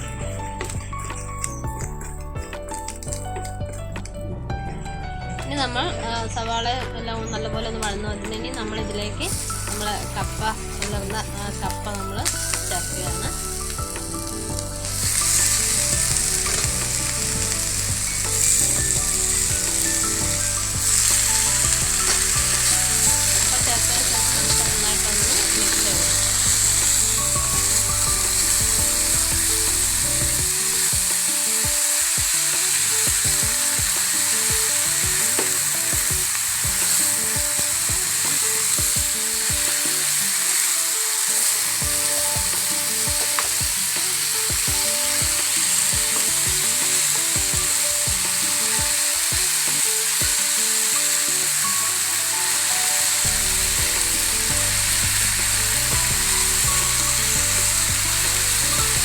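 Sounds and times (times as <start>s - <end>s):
food sizzling in a pan: 9.2s - 59.0s.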